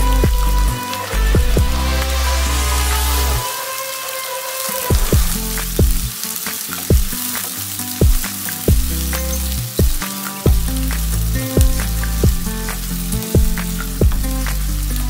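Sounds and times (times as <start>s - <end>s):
background music with deep beat: 0.0s - 3.5s, 4.9s - 15.0s
onions sizzling in oil: 0.0s - 15.0s.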